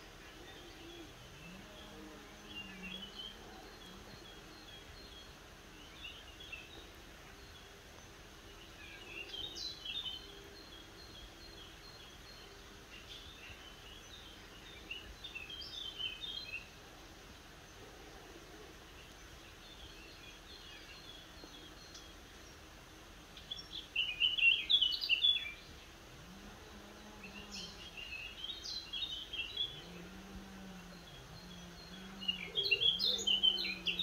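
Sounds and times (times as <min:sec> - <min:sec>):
birds chirping: 0:00.0 - 0:34.0
faint outdoor background noise: 0:00.0 - 0:34.0.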